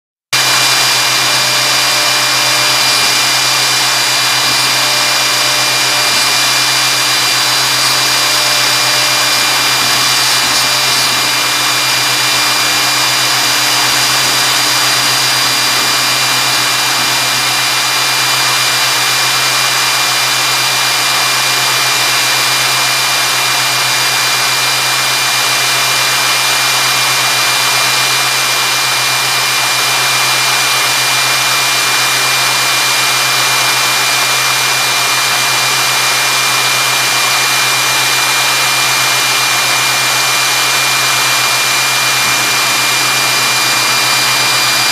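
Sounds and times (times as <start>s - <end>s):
cnc router engraving wood: 0.3s - 44.9s.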